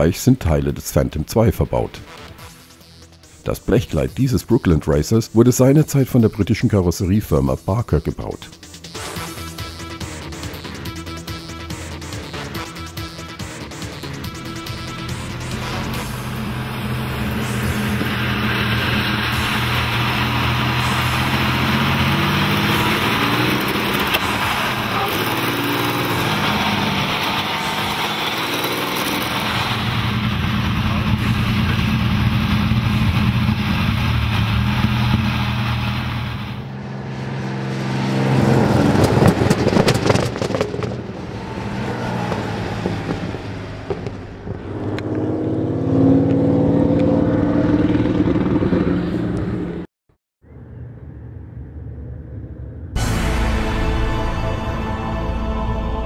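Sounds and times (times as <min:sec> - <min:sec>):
aero engine droning: 0:07.9 - 0:56.0.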